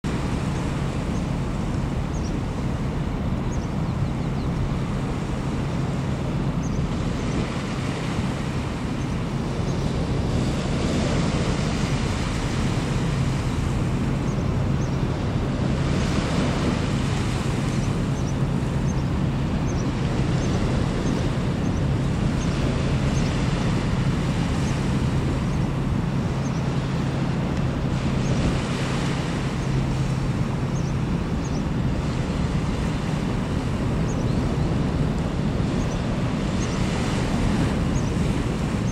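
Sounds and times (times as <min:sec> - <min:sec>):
ship engine drone: 0:00.0 - 0:38.9
wind on microphone: 0:00.0 - 0:38.9.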